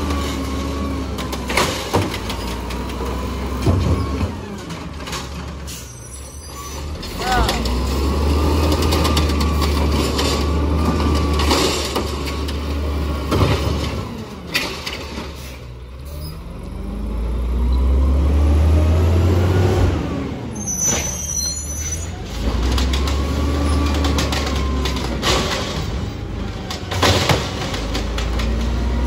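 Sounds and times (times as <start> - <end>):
garbage truck engine revving: 0.0 - 5.8, 6.7 - 29.0.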